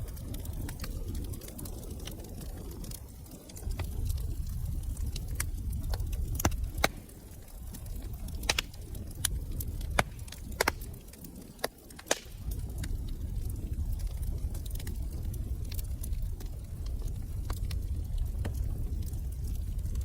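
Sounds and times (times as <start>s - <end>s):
rumble of burning flames: 0.0s - 20.0s
wood fire crackling: 0.0s - 20.0s.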